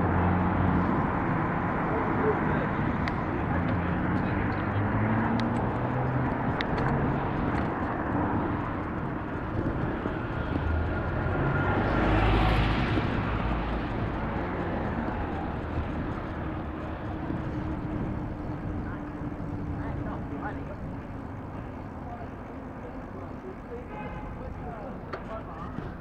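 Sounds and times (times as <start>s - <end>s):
vehicle passing close: 0.0s - 22.0s
road traffic rumble: 0.0s - 26.0s.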